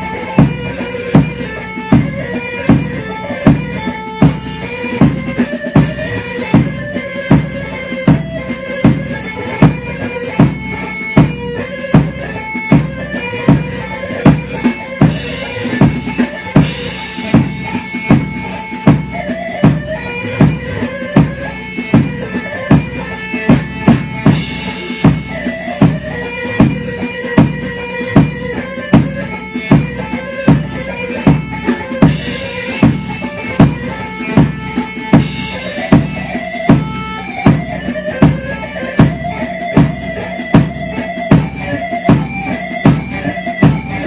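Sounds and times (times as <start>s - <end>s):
loud uneven drum beat: 0.0s - 44.0s
wavering melody line: 0.0s - 44.0s.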